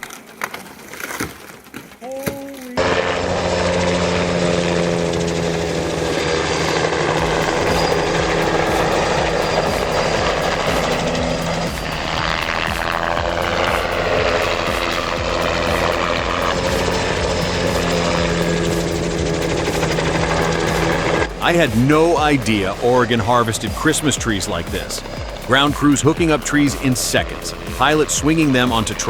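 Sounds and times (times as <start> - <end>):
helicopter rotor chopping: 0.0 - 29.0
turbine hum: 2.8 - 29.0.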